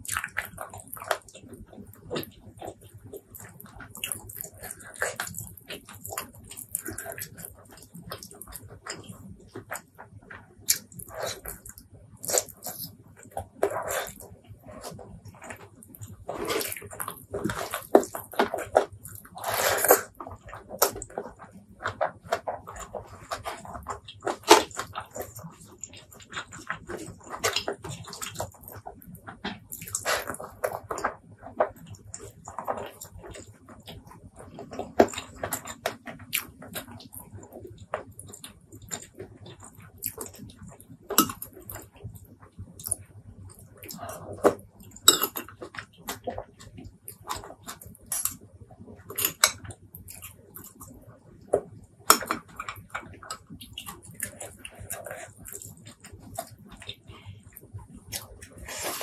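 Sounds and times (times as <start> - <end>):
wet chewing and lip smacking: 0.0 - 59.0.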